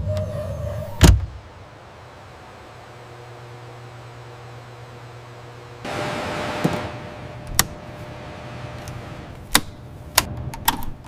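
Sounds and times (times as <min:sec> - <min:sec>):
steady low hum: 0:00.8 - 0:11.0.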